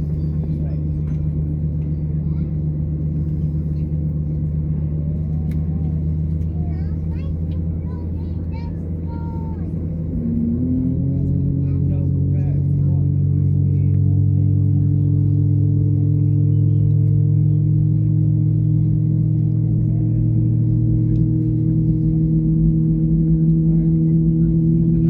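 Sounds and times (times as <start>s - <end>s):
airplane cabin engine drone: 0.0s - 25.0s.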